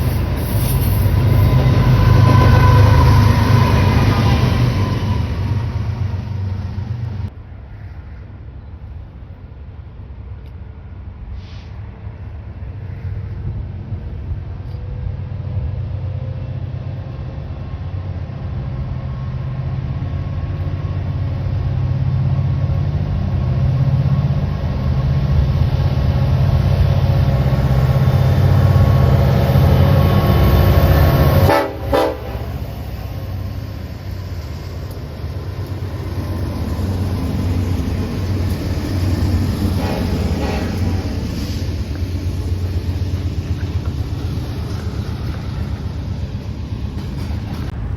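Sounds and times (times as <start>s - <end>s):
diesel locomotive rumbling past: 0.0s - 47.9s.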